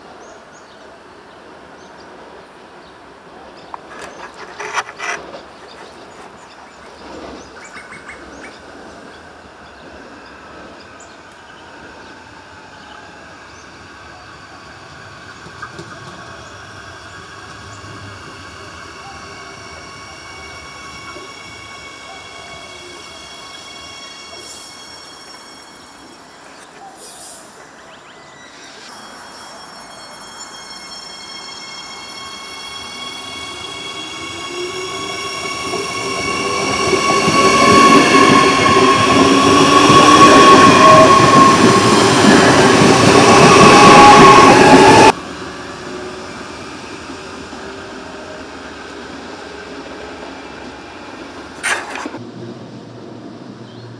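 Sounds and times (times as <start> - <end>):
electric train rumbling: 0.0 - 53.9
high-pitched train whine: 1.5 - 53.9.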